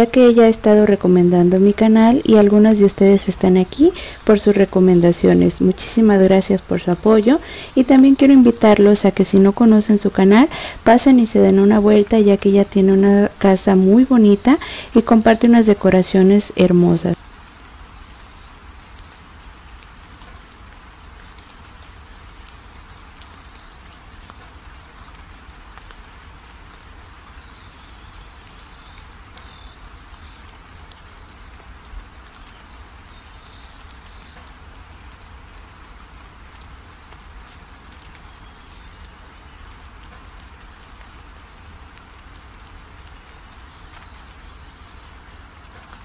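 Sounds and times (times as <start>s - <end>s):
water trickling into pebbles: 3.0s - 16.2s, 17.1s - 46.0s.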